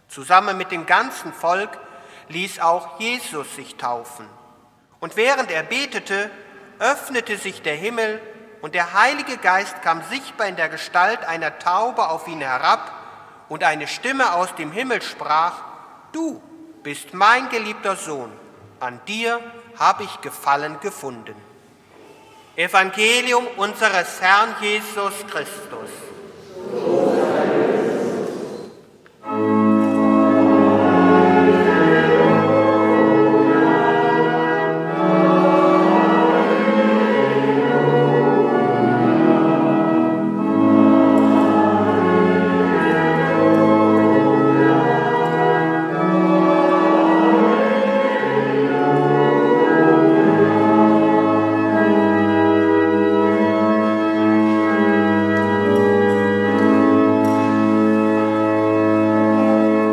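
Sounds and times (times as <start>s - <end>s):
church organ chords: 0.0s - 21.8s, 22.6s - 26.2s, 27.4s - 59.9s.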